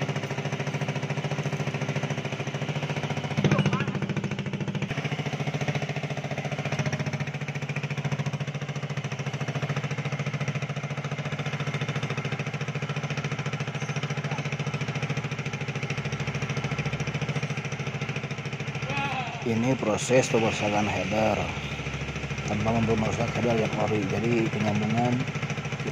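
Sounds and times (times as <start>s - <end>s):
motor running with pulsing drone: 0.0s - 25.9s.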